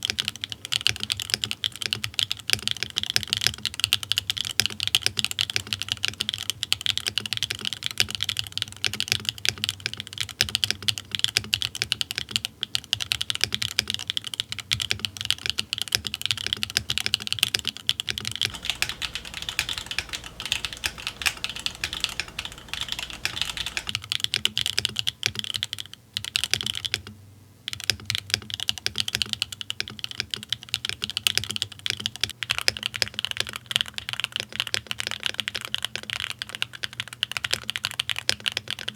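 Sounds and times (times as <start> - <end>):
mechanical keyboard typing clacks: 0.0 - 38.9.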